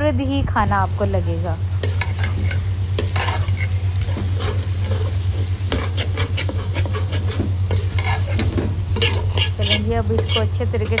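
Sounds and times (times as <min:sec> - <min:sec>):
light sizzle: 0:00.0 - 0:11.0
steady low hum: 0:00.0 - 0:11.0
spoon scraping in a pot: 0:01.8 - 0:11.0.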